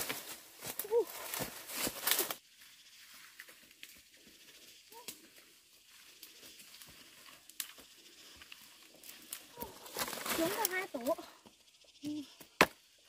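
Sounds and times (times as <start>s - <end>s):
rustling of undergrowth: 0.0s - 13.0s.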